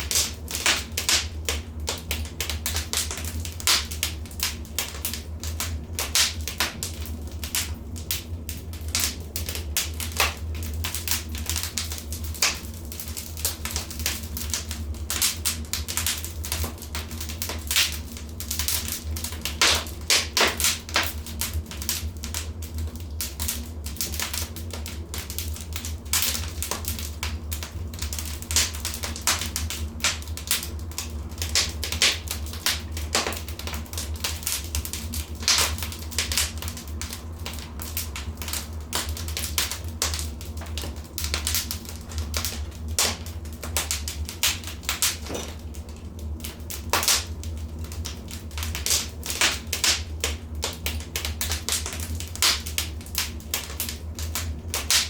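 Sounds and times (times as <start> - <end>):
fireplace fire crackling: 0.0 - 55.0
low rumble of fire: 0.0 - 55.0.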